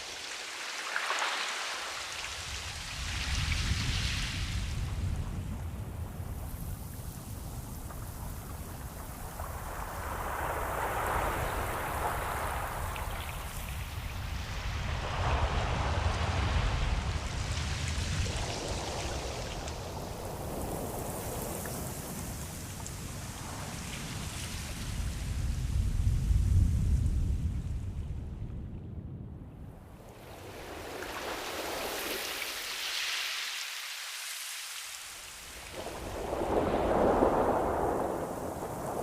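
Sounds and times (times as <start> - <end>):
hissing spray of waves: 0.0 - 26.6, 30.1 - 39.0
surf rumbling: 0.0 - 39.0.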